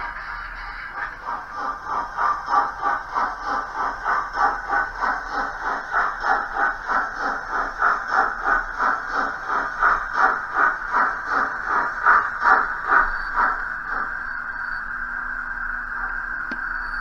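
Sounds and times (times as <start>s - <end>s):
model steam locomotive chuffing: 0.0s - 16.1s.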